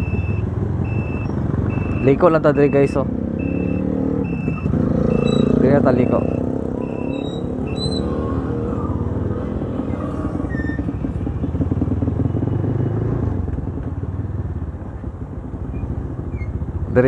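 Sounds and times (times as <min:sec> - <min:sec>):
motorcycle engine running: 0:03.0 - 0:17.0.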